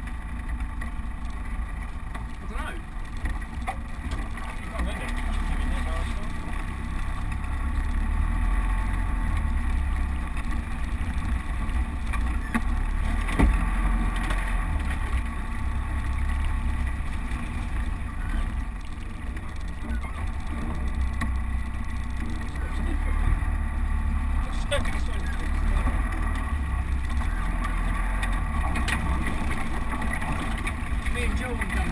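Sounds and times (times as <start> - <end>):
vehicle engine rumble: 0.0 - 31.9.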